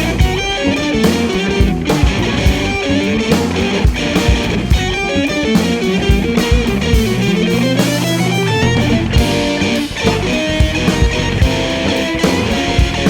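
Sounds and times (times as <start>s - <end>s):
bass and drums: 0.0s - 13.0s
electric guitar: 0.0s - 13.0s.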